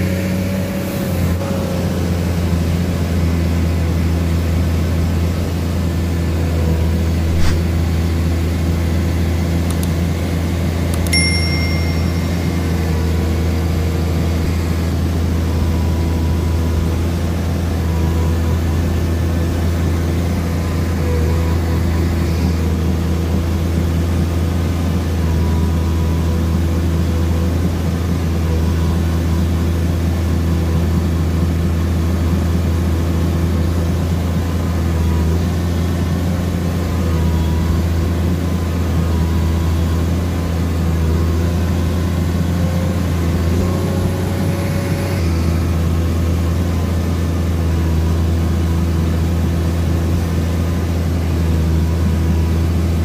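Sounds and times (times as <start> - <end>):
excavator diesel engine humming: 0.0 - 53.0.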